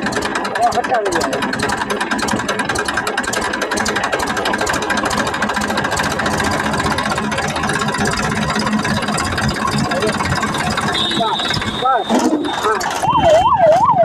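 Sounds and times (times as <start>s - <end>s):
toy tractor engine chugging: 0.0s - 14.0s.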